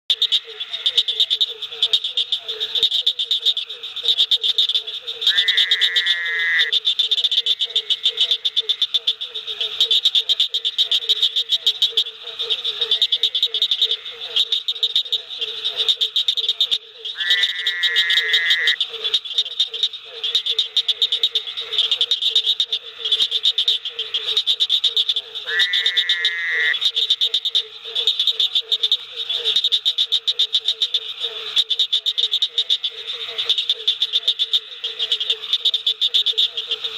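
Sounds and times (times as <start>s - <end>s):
frog chorus: 0.1s - 36.9s
long frog call: 0.1s - 36.9s.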